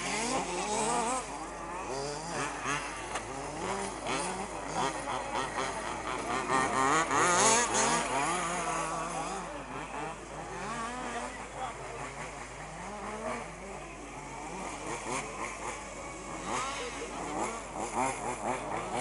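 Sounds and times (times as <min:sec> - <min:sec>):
small engines buzzing and revving: 0:00.0 - 0:19.0.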